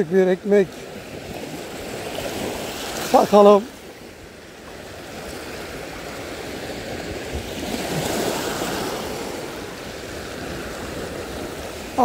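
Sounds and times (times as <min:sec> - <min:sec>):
small waves washing onto shore: 0:00.0 - 0:12.0.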